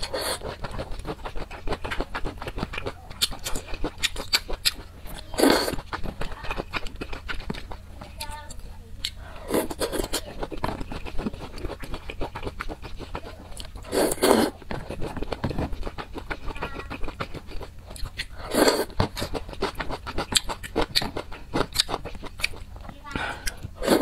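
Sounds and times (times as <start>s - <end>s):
wet chewing and mouth clicks: 0.0s - 24.0s.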